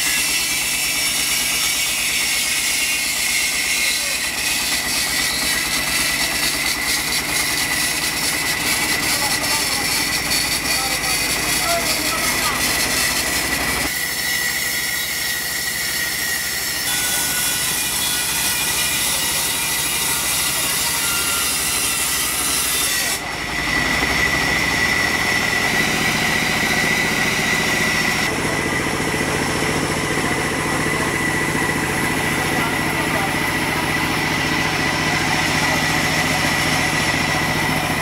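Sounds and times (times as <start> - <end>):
sawmill machinery whining: 0.0 - 38.0.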